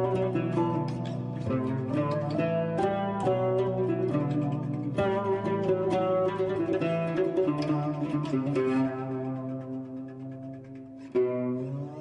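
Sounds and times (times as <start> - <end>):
plucked string instrumental music: 0.0 - 12.0.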